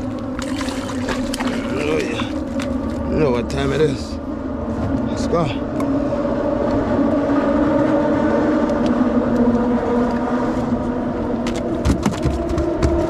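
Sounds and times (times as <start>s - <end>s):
road traffic drone: 0.0s - 13.0s.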